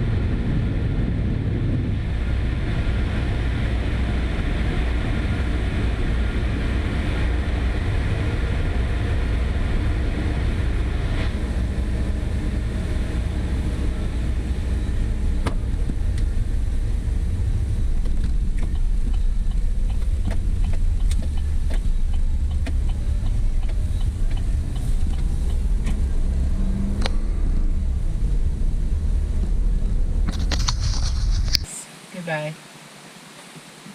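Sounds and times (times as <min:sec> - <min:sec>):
truck road and engine rumble: 0:00.0 - 0:31.9.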